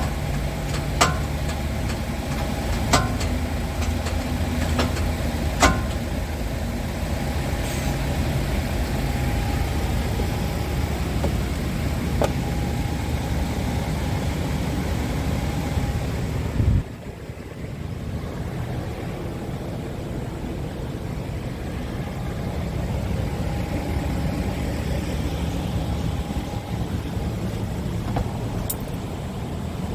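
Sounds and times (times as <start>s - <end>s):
truck diesel engine idling: 0.0s - 29.9s.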